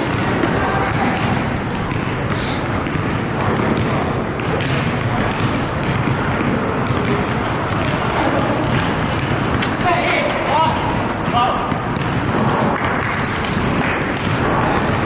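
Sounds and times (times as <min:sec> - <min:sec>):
basketball bouncing on asphalt: 0:00.0 - 0:15.0
steady background noise: 0:00.0 - 0:15.0.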